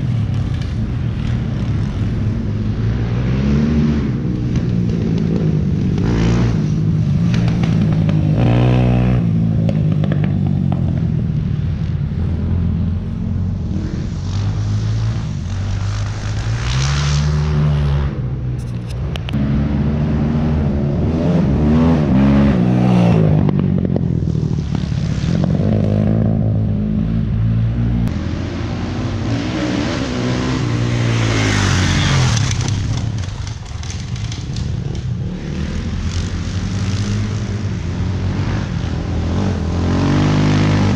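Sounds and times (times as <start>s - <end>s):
dirt bike engines passing by: 0.0s - 40.9s.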